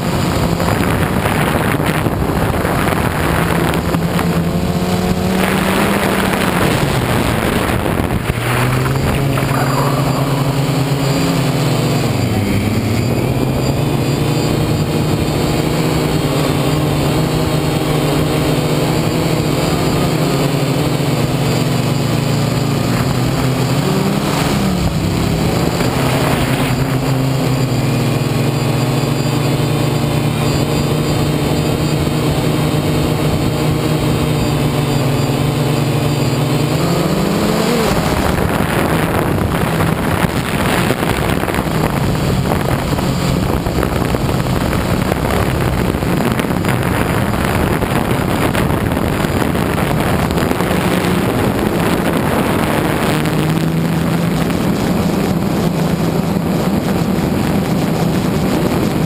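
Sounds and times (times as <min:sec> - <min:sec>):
rushing wind noise: 0:00.0 - 0:59.0
drone motors buzzing: 0:00.1 - 0:58.8.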